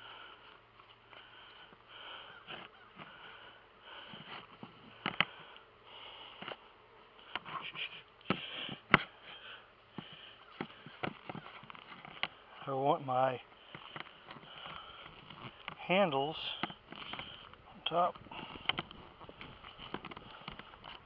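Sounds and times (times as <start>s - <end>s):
heavy breathing: 0.0s - 12.6s, 13.4s - 21.0s.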